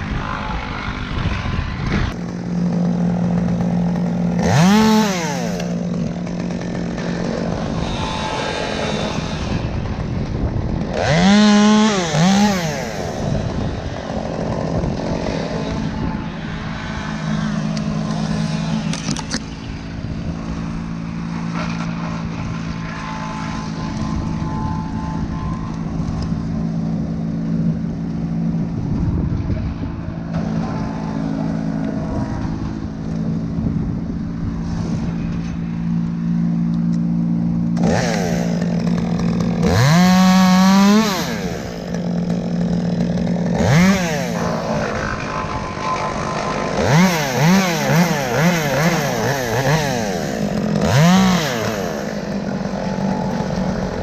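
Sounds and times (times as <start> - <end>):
chainsaw revving: 0.0 - 28.8, 34.6 - 54.0
engine hum: 0.0 - 54.0.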